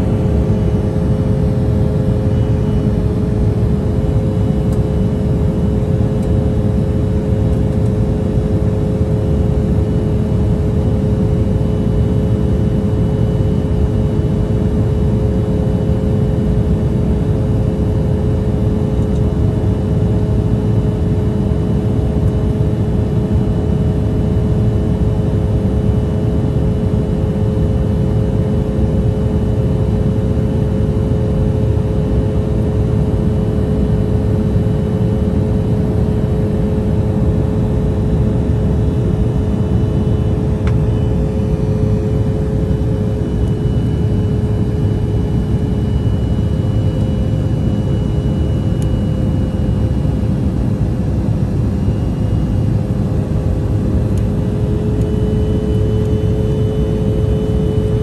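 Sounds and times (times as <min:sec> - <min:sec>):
jet engines running steadily: 0:00.0 - 0:58.0
steady multi-tone hum: 0:00.0 - 0:58.0.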